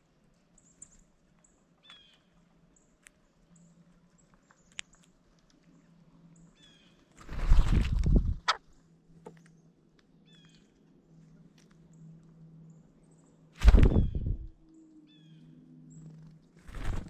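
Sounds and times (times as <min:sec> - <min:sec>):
bird calls and chirps: 0:00.5 - 0:05.2, 0:06.2 - 0:07.1, 0:08.2 - 0:17.0.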